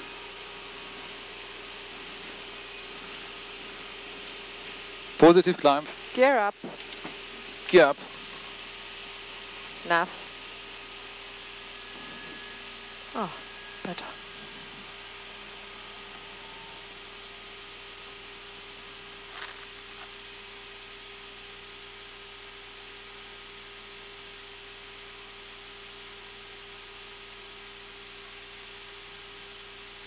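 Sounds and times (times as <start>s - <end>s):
low hum: 0.0s - 29.6s.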